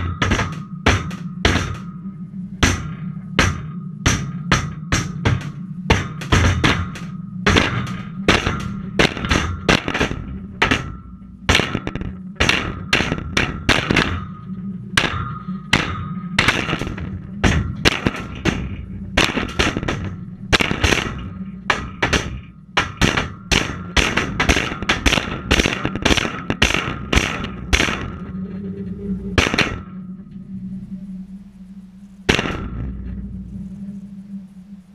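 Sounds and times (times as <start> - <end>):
hammer striking metal: 0.0 - 30.1, 32.3 - 33.2
steady low hum: 0.0 - 34.9.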